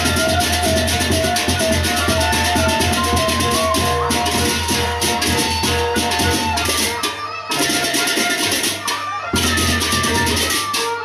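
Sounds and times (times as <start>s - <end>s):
big drums: 0.0s - 11.0s.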